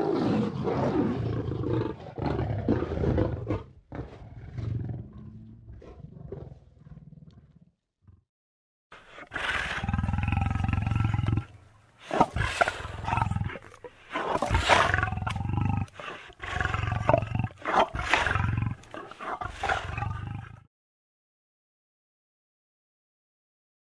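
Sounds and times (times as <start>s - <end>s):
lion roaring: 0.0s - 8.2s, 9.2s - 20.7s.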